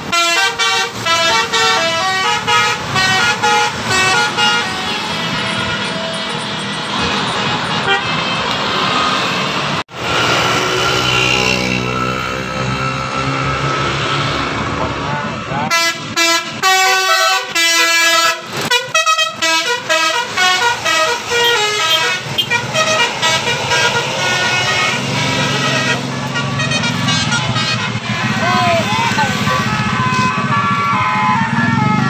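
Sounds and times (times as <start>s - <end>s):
multi-tone musical bus horn: 0.0s - 9.4s, 15.6s - 32.0s
bus and traffic hum: 0.0s - 32.0s.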